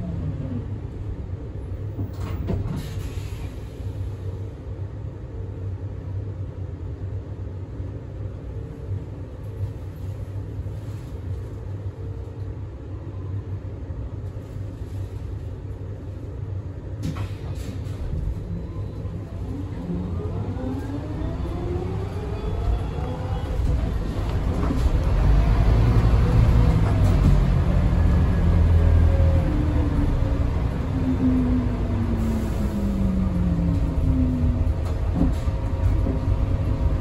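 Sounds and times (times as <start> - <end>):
bus cabin rumble: 0.0 - 37.0.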